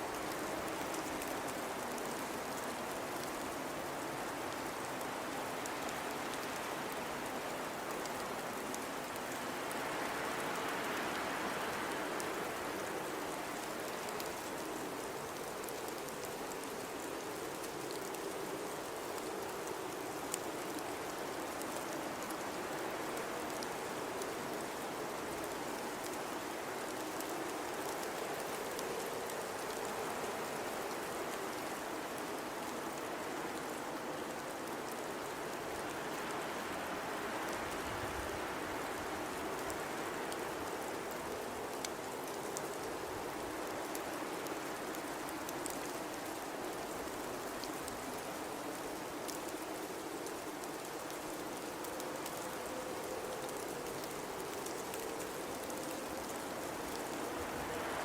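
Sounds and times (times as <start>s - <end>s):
faint scattered ticks: 0.0s - 58.0s.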